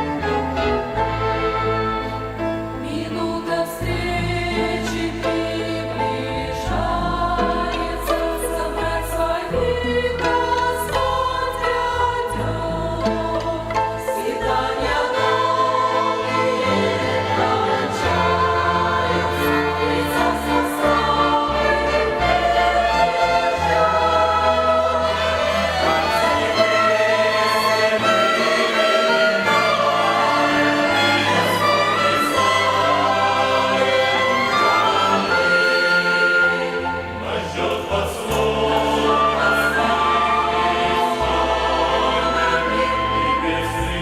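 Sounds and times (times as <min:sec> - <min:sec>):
choir singing a hymn: 0:00.0 - 0:44.0
violin ensemble: 0:00.0 - 0:44.0.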